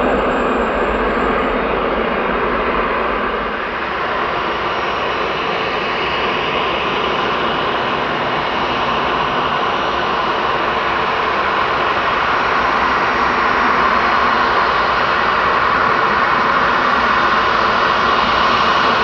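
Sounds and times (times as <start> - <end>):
jet engines whining at taxi power: 0.0 - 19.0.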